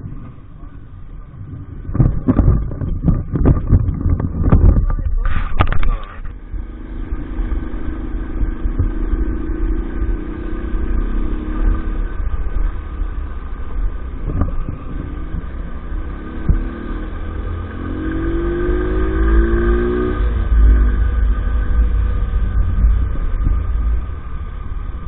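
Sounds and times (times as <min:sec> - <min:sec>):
heavy low rumble: 0:00.0 - 0:25.0.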